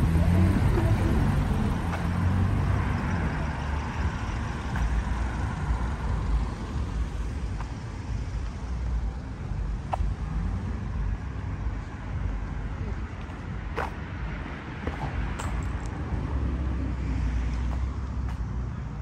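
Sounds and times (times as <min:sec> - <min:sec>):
cars passing: 0:00.0 - 0:19.0.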